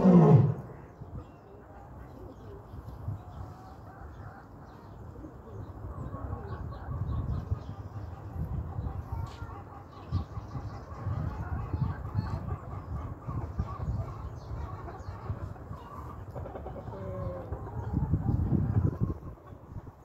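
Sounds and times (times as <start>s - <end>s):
chickens clucking: 0.1s - 20.0s.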